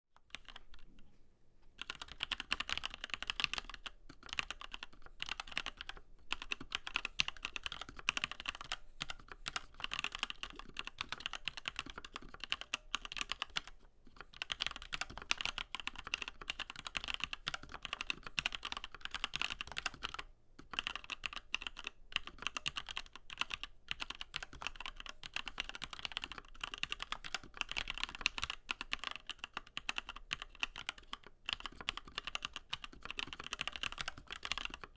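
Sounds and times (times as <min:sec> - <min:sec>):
fast mechanical keyboard typing: 0:00.3 - 0:00.9, 0:01.8 - 0:34.9.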